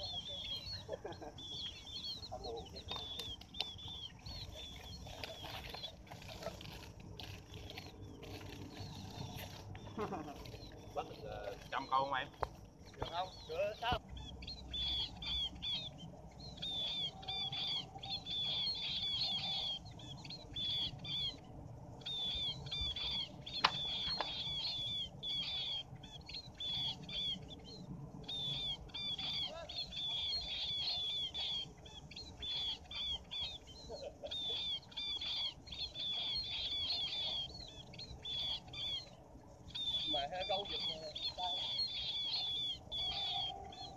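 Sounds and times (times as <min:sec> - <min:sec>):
munias chirping: 0:00.0 - 0:43.9.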